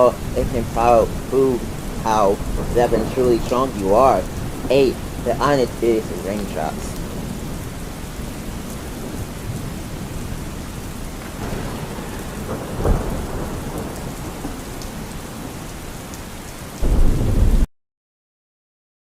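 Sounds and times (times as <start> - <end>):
steady rain: 0.0 - 17.7
thunder rumbling: 0.0 - 17.7.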